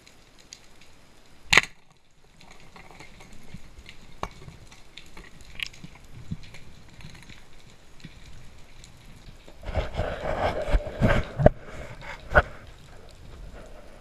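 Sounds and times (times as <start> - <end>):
underwater clicks and crackles: 0.0 - 14.0.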